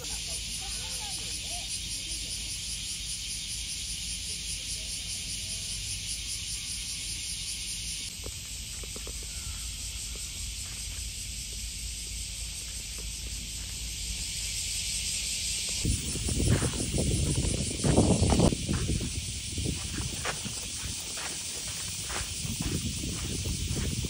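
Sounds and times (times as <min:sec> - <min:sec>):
cicada chorus drone: 0:00.0 - 0:24.0.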